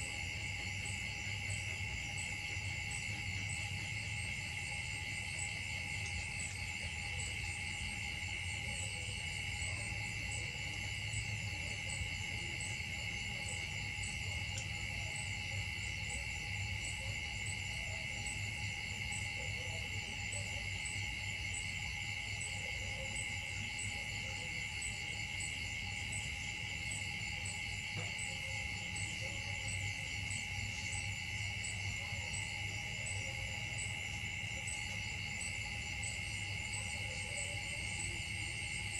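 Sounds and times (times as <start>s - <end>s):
insect chorus: 0.0s - 38.9s
pulsing insect trill: 0.0s - 38.9s.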